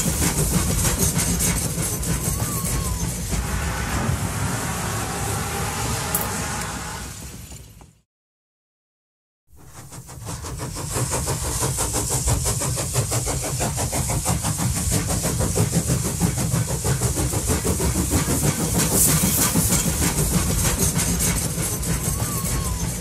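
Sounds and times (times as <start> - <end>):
locomotive engine running: 0.0 - 7.7, 10.2 - 23.0.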